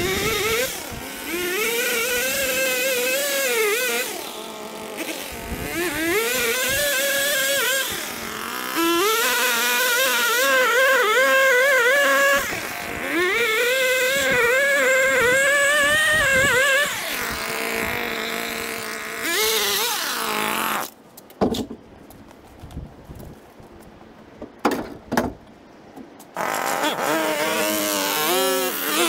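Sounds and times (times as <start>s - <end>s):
gas string trimmer running: 0.0s - 20.9s, 26.4s - 29.0s.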